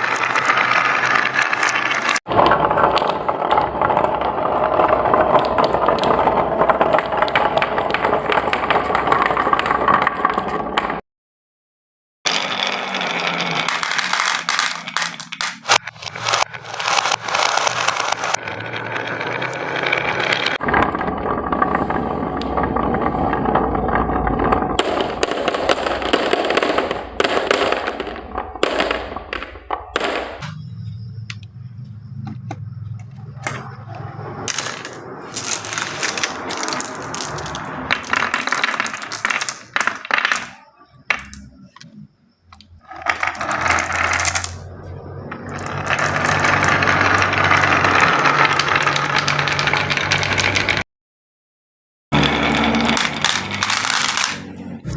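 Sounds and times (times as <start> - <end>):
marbles clattering on wooden run: 0.0 - 11.0, 12.3 - 30.4, 33.4 - 50.8, 52.2 - 54.6.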